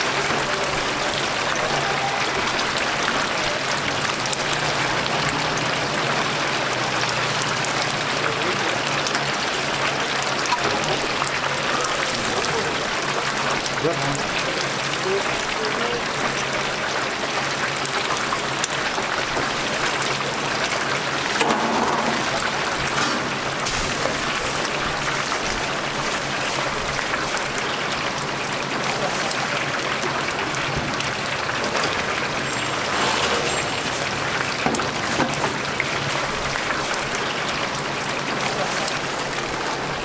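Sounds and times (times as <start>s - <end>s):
chicken deep-frying in oil: 0.0s - 40.0s.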